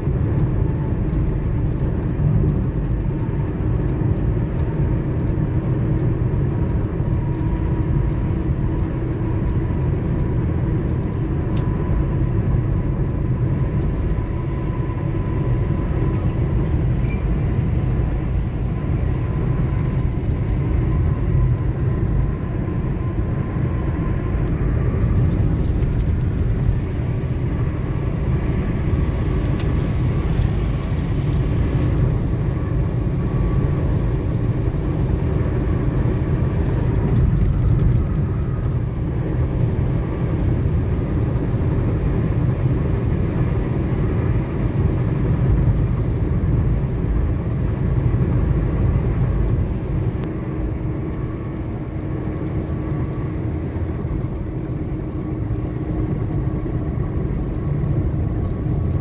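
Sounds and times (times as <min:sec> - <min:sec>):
tyre rumble and engine drone: 0:00.0 - 0:59.0.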